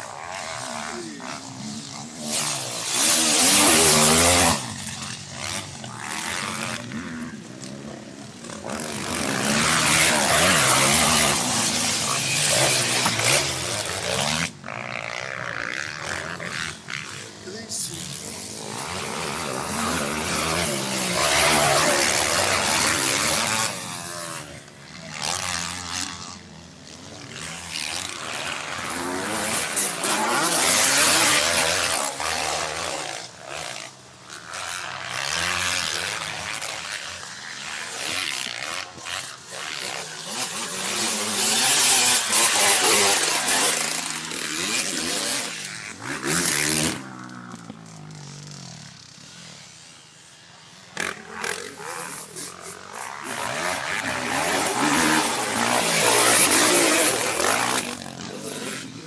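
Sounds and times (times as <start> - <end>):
motocross motorcycles revving: 0.0 - 59.0.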